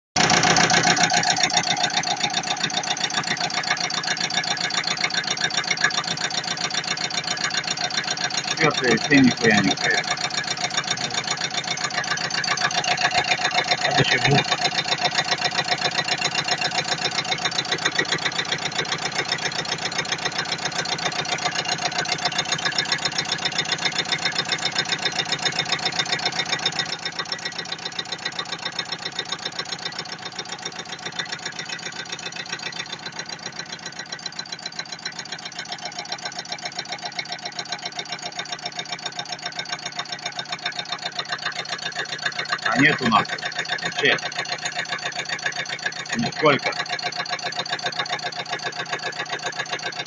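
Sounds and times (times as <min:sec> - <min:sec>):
car engine idling with knocking: 0:00.2 - 0:50.0.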